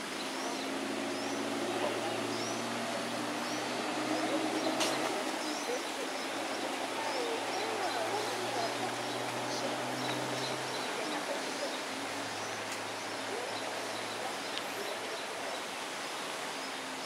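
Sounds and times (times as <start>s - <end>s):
outdoor background noise: 0.0s - 17.0s
small birds chirping: 0.0s - 17.0s.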